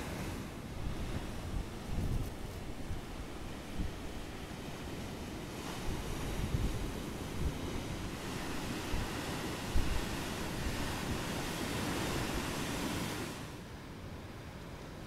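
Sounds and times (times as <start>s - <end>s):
wind buffeting microphone: 0.0s - 13.4s
ocean surf breaking: 0.0s - 13.7s.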